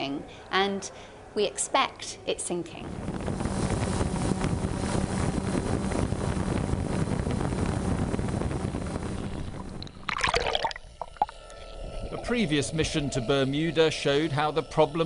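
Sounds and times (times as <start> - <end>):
low steady hum: 0.0 - 15.0
wind on microphone: 2.7 - 14.9.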